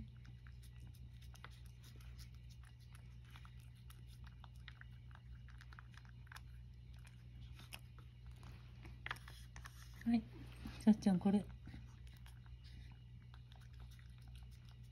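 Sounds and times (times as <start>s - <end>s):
cat chewing and licking: 0.0s - 14.9s
steady low hum: 0.0s - 14.9s.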